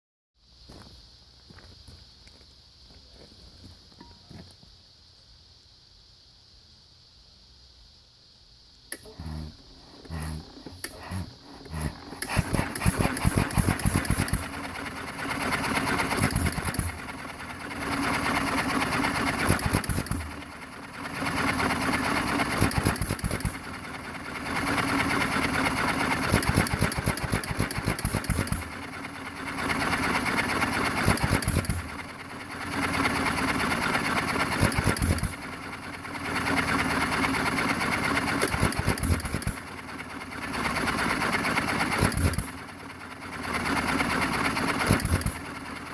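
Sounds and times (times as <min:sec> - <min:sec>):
hit-and-miss engine running: 0:08.9 - 0:45.9.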